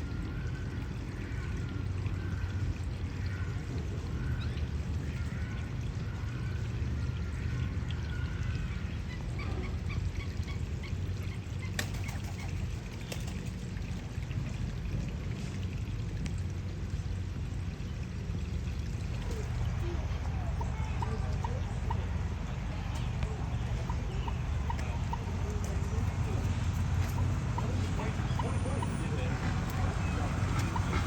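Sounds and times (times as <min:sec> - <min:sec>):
pouring water rushing: 0:00.0 - 0:31.0.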